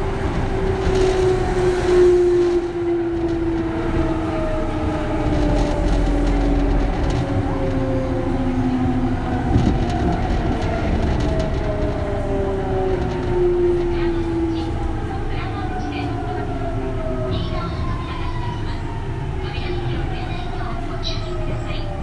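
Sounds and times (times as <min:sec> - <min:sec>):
train wheels rumbling and clattering: 0:00.0 - 0:22.0.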